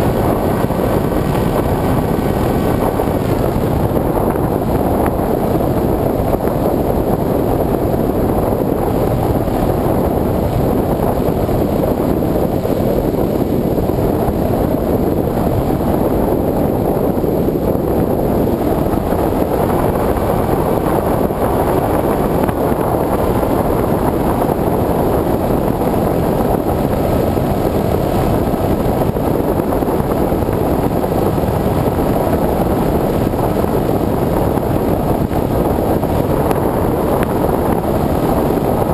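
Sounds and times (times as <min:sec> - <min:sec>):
aircraft engine and air rush: 0:00.0 - 0:38.9.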